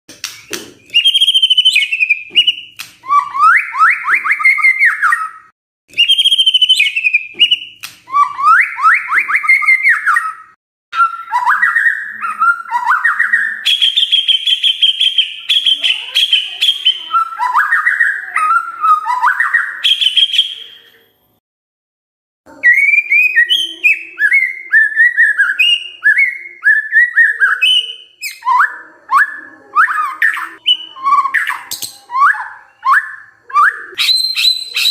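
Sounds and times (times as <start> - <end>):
bird song whistles and trills: 0.2 - 21.1, 22.5 - 34.9.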